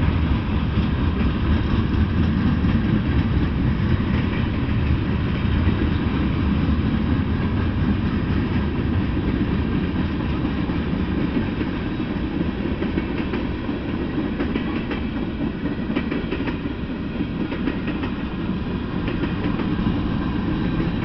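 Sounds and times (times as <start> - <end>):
freight train rumbling past: 0.0 - 21.0
wheels clicking on rails: 0.0 - 21.0.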